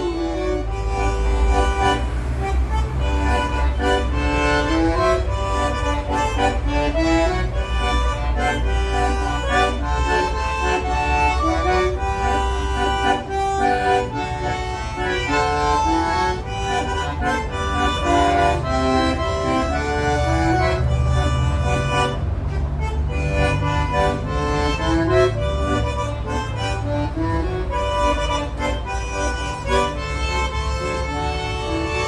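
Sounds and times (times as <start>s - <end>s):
bandoneon melody: 0.0s - 32.0s.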